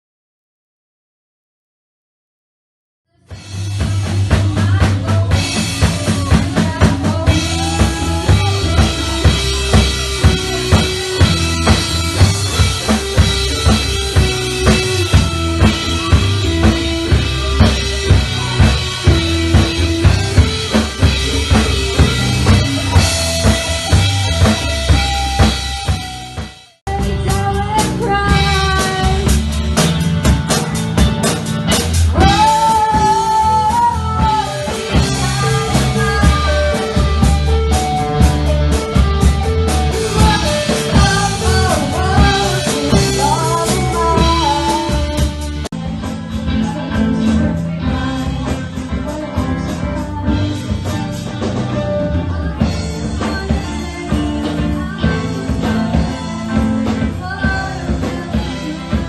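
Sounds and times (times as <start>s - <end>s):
person singing: 3.1s - 26.0s, 26.9s - 31.1s, 31.7s - 59.0s
band playing live: 3.1s - 59.0s
drum kit beat: 3.2s - 59.0s.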